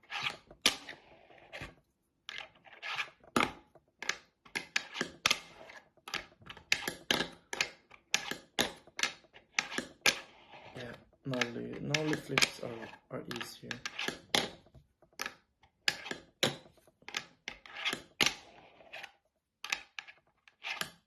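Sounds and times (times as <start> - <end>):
fingerboard clicks and clacks: 2.3 - 21.0.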